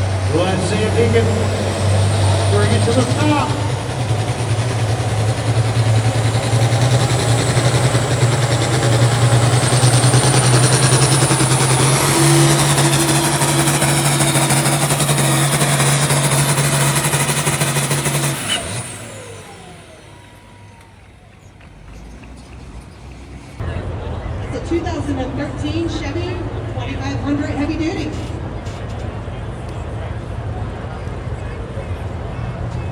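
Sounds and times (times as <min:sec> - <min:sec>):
tractor diesel engine at full throttle: 0:00.0 - 0:32.9.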